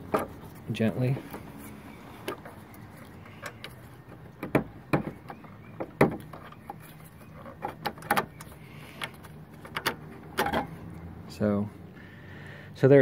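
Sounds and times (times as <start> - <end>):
plastic housing knocking and scraping: 0.0 - 10.9.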